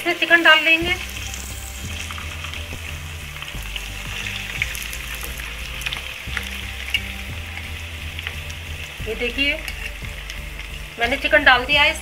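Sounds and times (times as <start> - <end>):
chicken sizzling in hot oil: 0.0 - 12.0
oil spitting crackles: 0.0 - 12.0.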